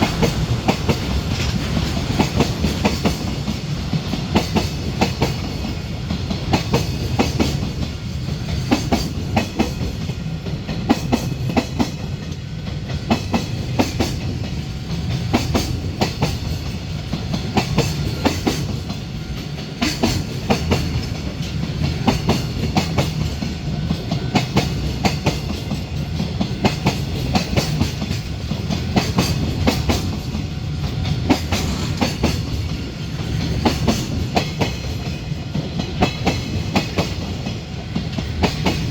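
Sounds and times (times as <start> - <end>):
freight train rumble: 0.0 - 38.9
train wheels clacking: 0.0 - 38.9.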